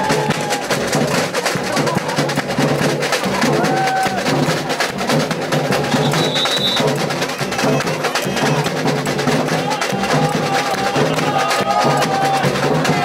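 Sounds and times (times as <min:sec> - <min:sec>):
snare drums: 0:00.0 - 0:13.0
surdo bass drums: 0:00.0 - 0:13.0.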